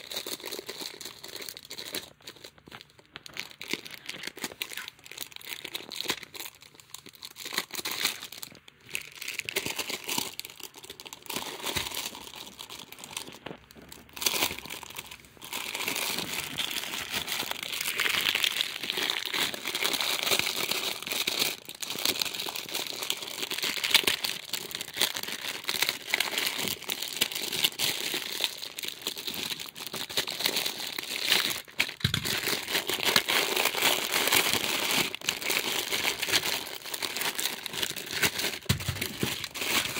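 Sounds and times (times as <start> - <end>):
plastic wrapping crinkling: 0.0 - 39.9.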